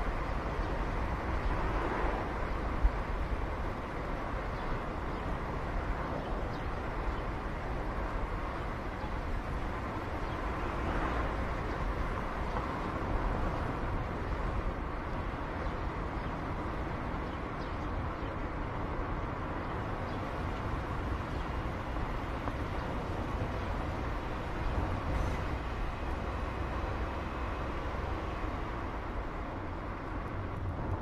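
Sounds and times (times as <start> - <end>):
low engine rumble: 0.0 - 31.0
tyre and road noise: 0.0 - 31.0.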